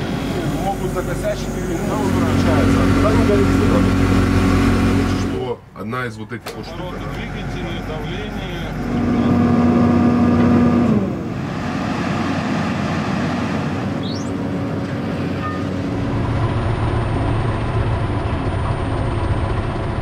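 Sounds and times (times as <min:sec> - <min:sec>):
machine whine: 0:00.0 - 0:05.5, 0:06.6 - 0:20.0
deep rough machine rumble: 0:00.0 - 0:05.6, 0:06.6 - 0:20.0.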